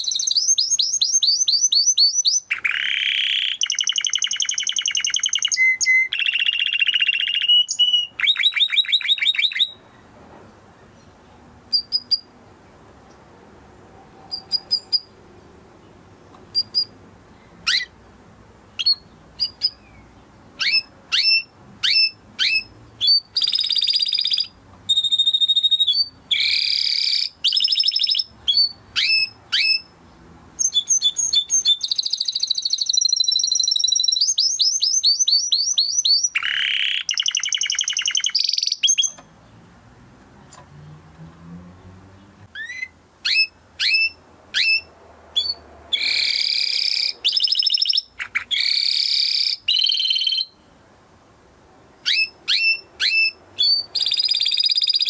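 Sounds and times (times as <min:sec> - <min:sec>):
canary singing: 0:00.0 - 0:10.1, 0:10.8 - 0:12.4, 0:14.0 - 0:39.7, 0:41.7 - 0:50.7, 0:51.9 - 0:55.0.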